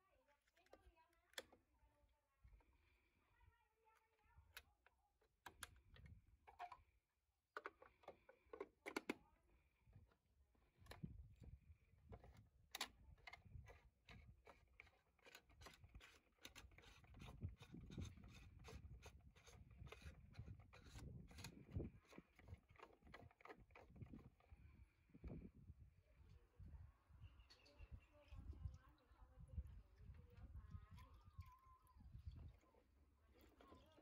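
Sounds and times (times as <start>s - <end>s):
faint plastic clicks and knocks: 0.2s - 25.7s, 27.4s - 34.0s.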